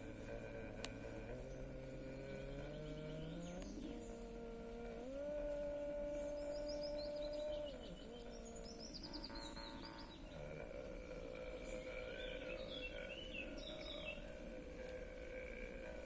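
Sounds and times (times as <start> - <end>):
faint steady hum: 0.0 - 16.0
small birds chirping trills: 0.0 - 16.0.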